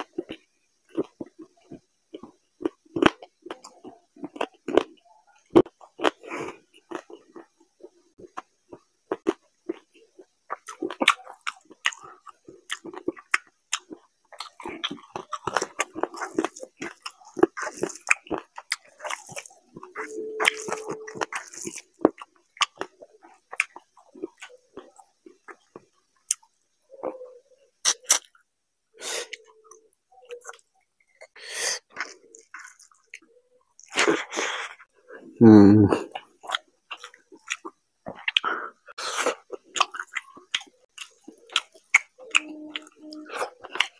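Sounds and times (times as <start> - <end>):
close-miked chewing with mouth clicks: 0.0 - 28.4, 29.0 - 34.9, 36.0 - 43.9.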